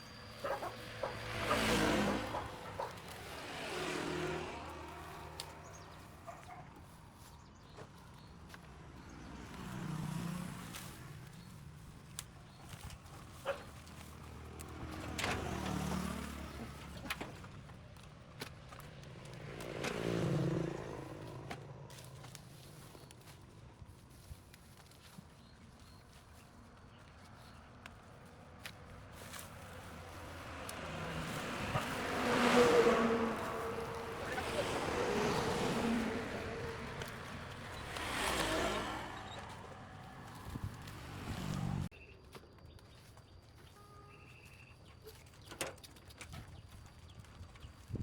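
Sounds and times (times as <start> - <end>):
vehicles passing: 0.0 - 42.1.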